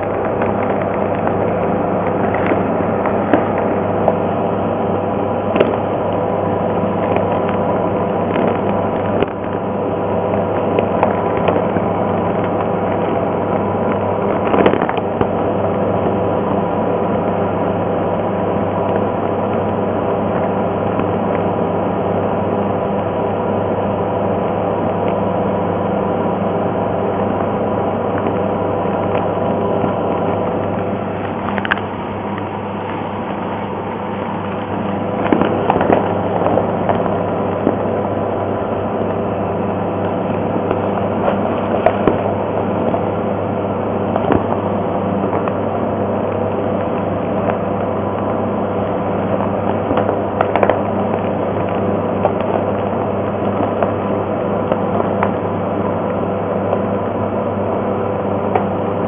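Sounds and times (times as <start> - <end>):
ventilation fan hum: 0.0 - 59.0.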